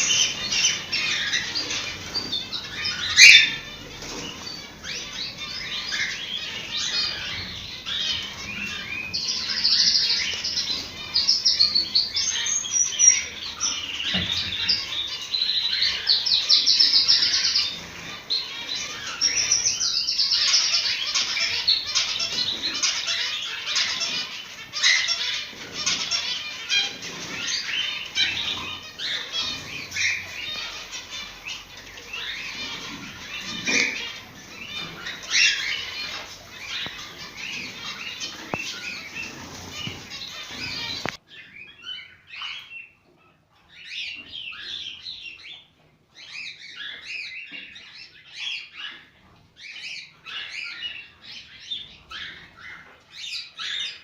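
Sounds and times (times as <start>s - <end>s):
cockatiels chattering and calling: 0.0s - 54.0s.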